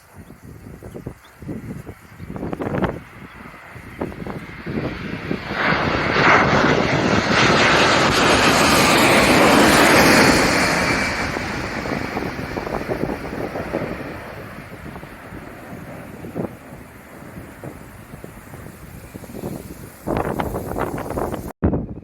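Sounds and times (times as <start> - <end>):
airliner passing overhead: 0.6 - 21.6.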